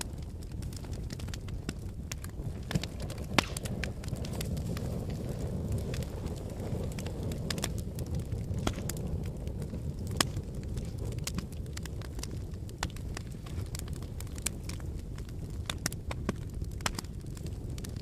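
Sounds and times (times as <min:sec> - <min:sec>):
loud pops from fire: 0:00.0 - 0:18.0
wood fire crackling: 0:00.0 - 0:18.0.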